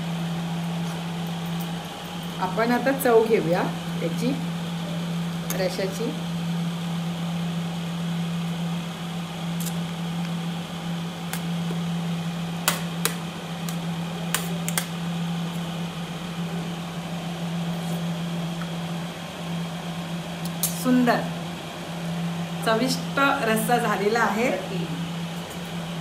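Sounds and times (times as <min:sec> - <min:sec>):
machine hum with hiss: 0:00.0 - 0:26.0.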